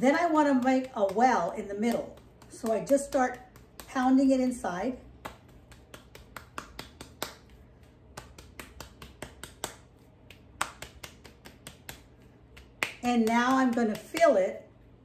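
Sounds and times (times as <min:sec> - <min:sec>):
fingers patting wet dough: 0:00.0 - 0:14.6.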